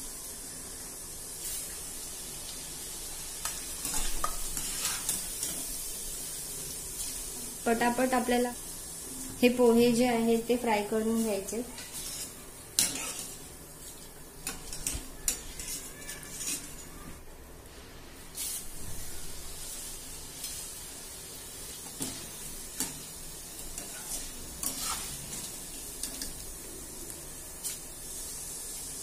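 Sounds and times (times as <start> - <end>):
rice sizzling in hot oil: 0.0 - 29.0.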